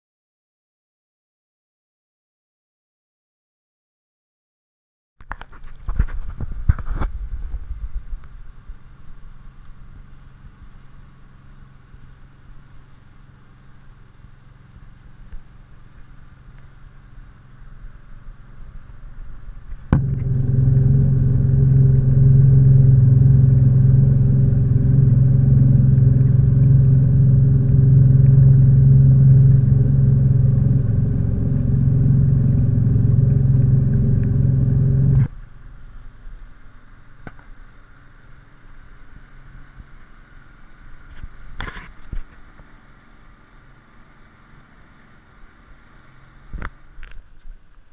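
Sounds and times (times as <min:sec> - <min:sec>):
water and hull noise: 0:05.2 - 0:47.9
outboard motor droning: 0:06.8 - 0:47.0.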